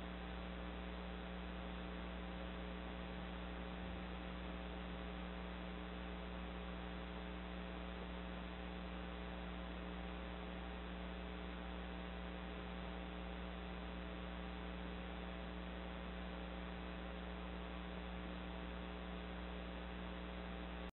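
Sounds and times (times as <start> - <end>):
electrical mains hum: 0.0 - 20.9.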